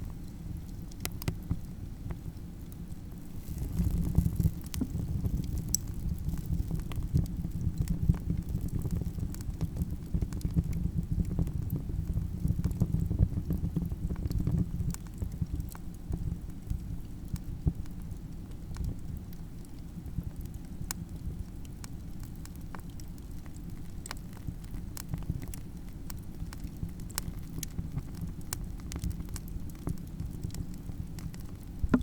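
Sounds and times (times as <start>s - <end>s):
campfire crackling and popping: 0.1s - 32.0s.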